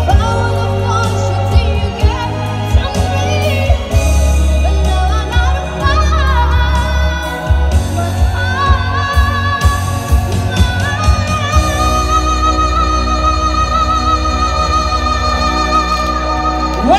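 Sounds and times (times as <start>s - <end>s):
amplified backing music with bass: 0.0s - 16.9s.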